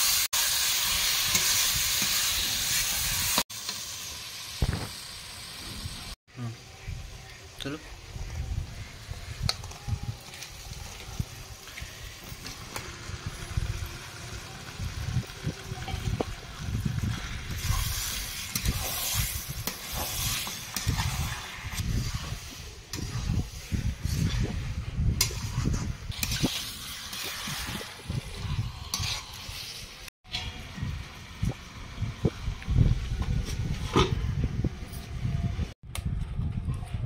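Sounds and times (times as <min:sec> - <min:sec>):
chicken sizzling in hot oil: 0:00.0 - 0:06.2, 0:08.2 - 0:32.4.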